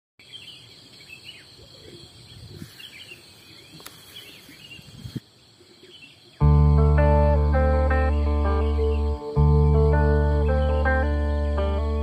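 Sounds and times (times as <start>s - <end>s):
birds chirping: 0.2s - 12.0s
insects humming: 0.2s - 12.0s.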